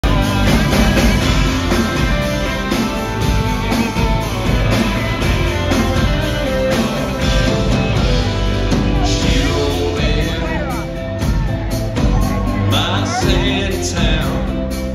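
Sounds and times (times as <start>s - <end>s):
electric guitar: 0.0s - 14.9s
steady drum beat: 0.0s - 14.9s.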